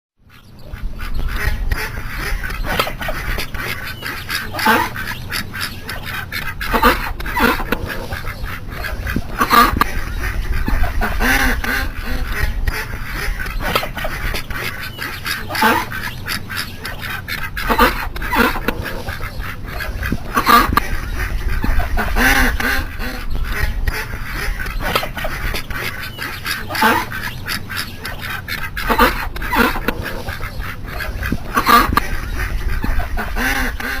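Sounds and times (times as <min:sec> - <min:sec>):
ducks quacking: 0:00.2 - 0:34.0
steady low rumble: 0:00.5 - 0:04.1, 0:04.9 - 0:26.2, 0:27.1 - 0:34.0.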